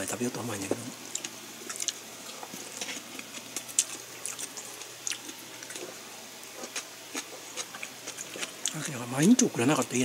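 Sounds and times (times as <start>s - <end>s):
person chewing food: 0.7s - 9.5s.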